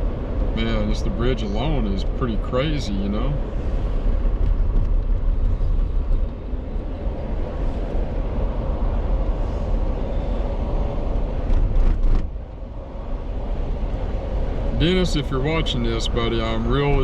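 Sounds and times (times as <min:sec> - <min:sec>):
car road and engine rumble: 0:00.0 - 0:17.0
rush of noise: 0:00.0 - 0:17.0.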